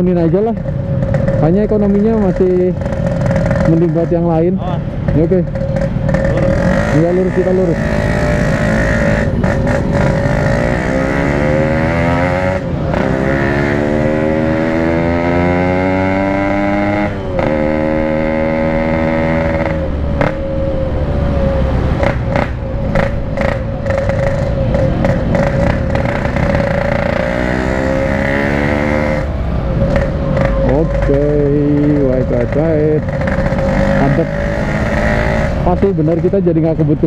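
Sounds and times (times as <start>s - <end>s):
motorcycle engine revving through gears: 0.0s - 37.0s.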